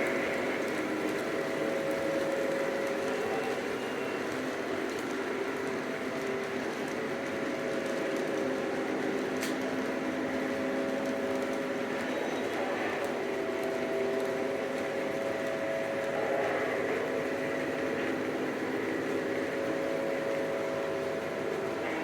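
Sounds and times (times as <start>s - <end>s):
model train humming on track: 0.0s - 22.0s.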